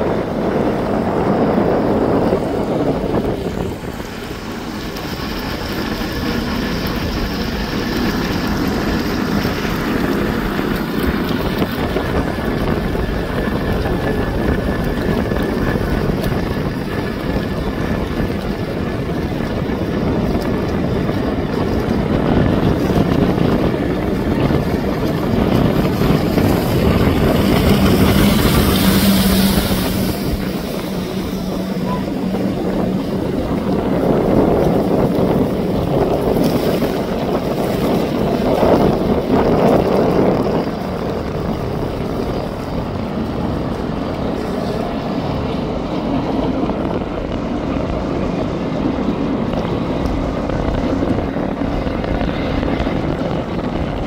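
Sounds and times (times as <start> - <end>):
jet ski engine running: 0.0 - 54.0
rushing wind and water: 0.0 - 54.0.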